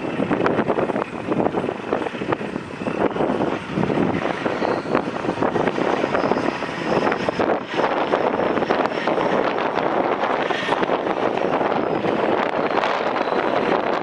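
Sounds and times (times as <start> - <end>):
diesel truck engine throbbing: 0.0 - 14.0.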